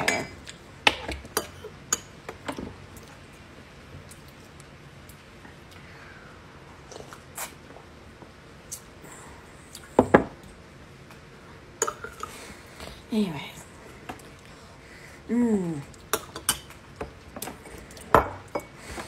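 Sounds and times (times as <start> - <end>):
quiet eating sounds: 0.0 - 19.0.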